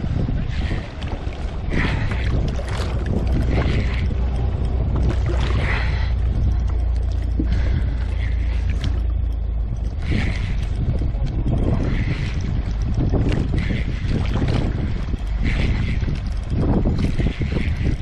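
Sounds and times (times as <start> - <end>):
water swishing: 0.0 - 18.0
wind buffeting microphone: 0.0 - 18.0.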